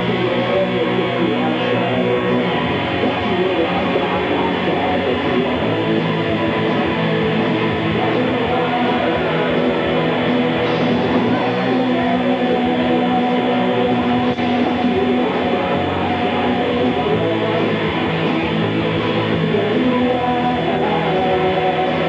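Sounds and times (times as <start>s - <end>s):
rock band playing loudly: 0.0s - 22.0s.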